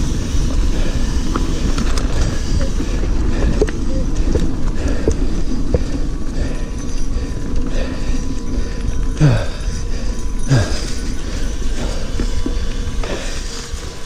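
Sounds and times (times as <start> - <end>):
bike clicks and rattles: 0.0 - 14.0
bike tyres rumbling on dirt: 0.0 - 14.0.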